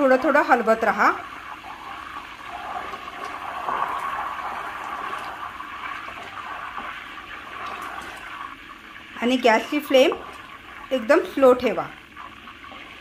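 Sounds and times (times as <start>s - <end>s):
butter bubbling in a pot: 0.0s - 13.0s.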